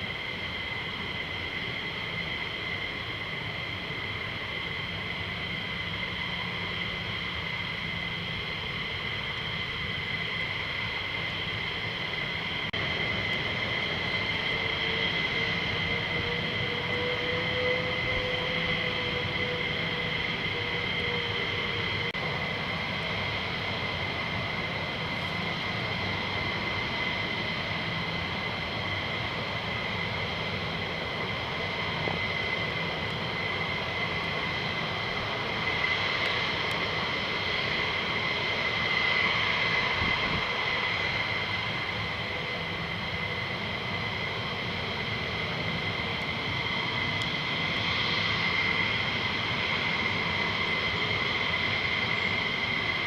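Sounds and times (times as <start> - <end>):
jet engines whining: 0.0 - 53.0.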